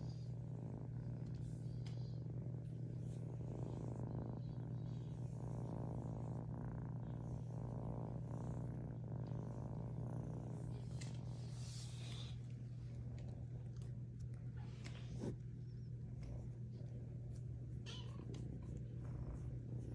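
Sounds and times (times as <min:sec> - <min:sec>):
kitten purring: 0:00.0 - 0:19.9.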